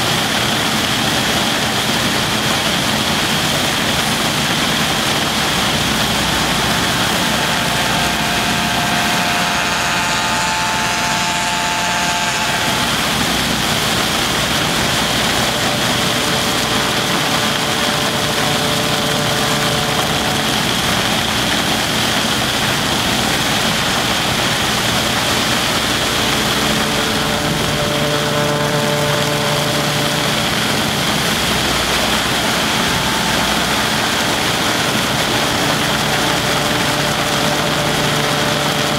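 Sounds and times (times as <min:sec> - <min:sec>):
faint engine tones: 0:00.0 - 0:38.9
snow machine blower rush: 0:00.0 - 0:38.9.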